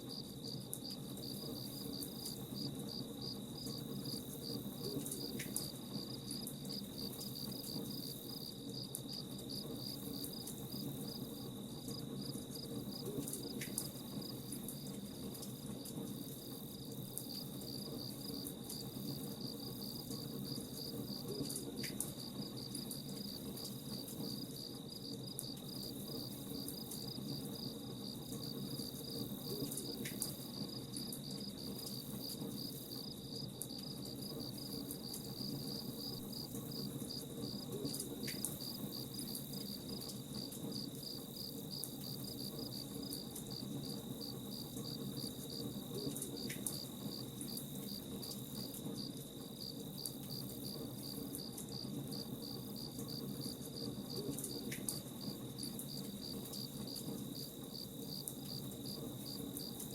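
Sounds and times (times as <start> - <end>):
crickets chirping: 0.1 - 59.9.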